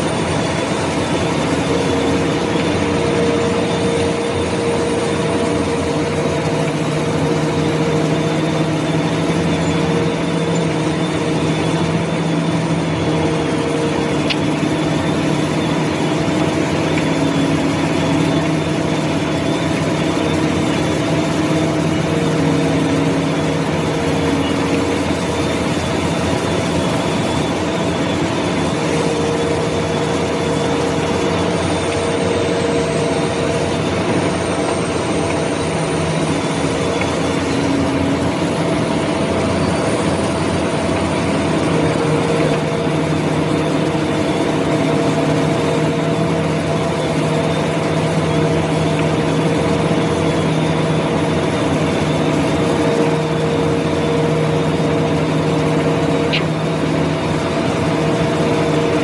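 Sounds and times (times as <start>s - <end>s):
heavy diesel machinery drone: 0.0s - 59.0s.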